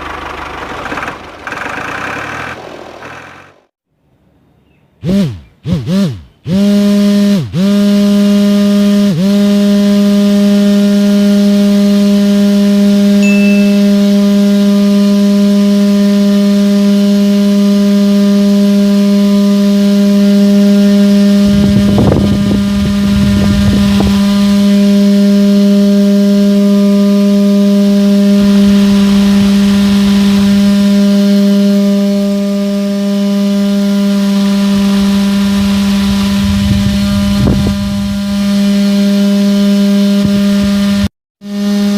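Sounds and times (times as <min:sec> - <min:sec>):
small electric motor humming: 0:05.0 - 0:41.9.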